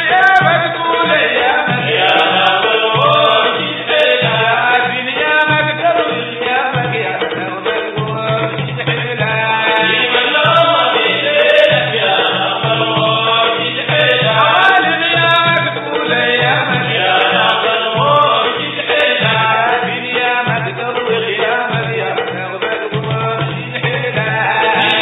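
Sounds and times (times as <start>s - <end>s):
chanting voices: 0.0s - 25.0s
steady drum beat: 0.0s - 25.0s.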